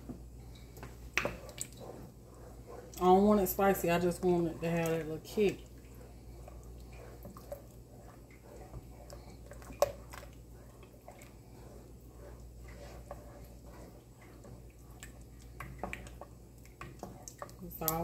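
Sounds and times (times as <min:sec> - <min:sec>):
low steady hum: 0:00.0 - 0:18.0
soup being stirred in a pot: 0:00.0 - 0:18.0.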